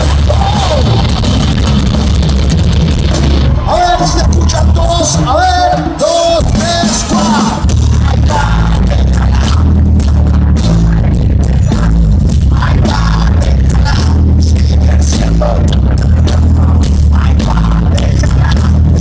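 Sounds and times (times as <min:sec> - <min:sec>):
heavy metal band playing: 0:00.0 - 0:19.0
person singing: 0:03.7 - 0:19.0.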